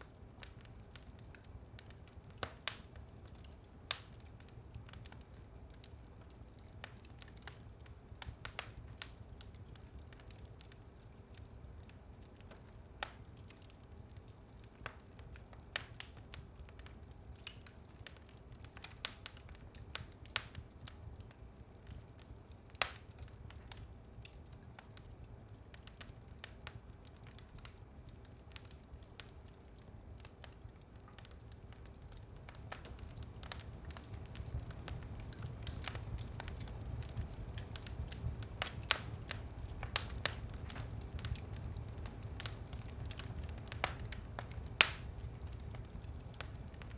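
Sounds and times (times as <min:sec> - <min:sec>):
fire crackling and popping: 0:00.0 - 0:46.9
wood fire flames rumbling: 0:00.0 - 0:46.9.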